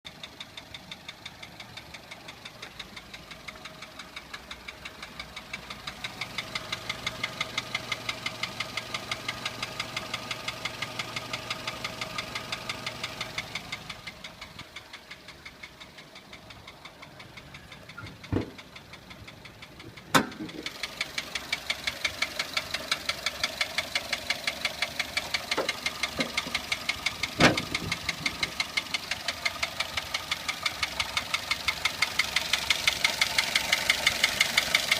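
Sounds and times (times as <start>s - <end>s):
engine knocking: 0.1s - 34.9s.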